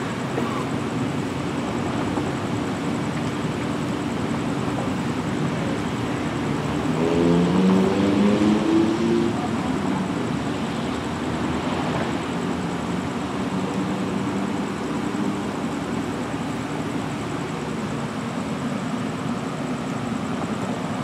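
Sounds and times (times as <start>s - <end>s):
idling diesel train engine drone: 0.0s - 7.9s, 8.9s - 21.0s.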